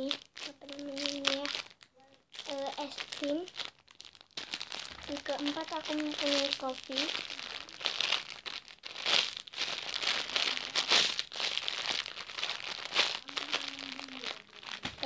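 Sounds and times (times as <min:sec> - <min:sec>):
toys crinkling and rustling: 0:00.0 - 0:15.0.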